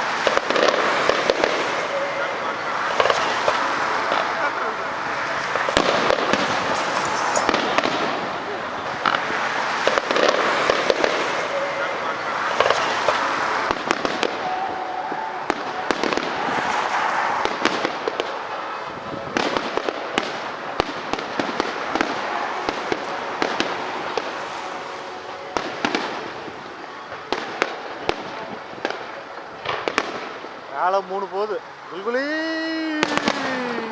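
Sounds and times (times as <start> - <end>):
crackling hiss: 0.0 - 33.9
fireworks bangs and crackles: 0.0 - 33.9.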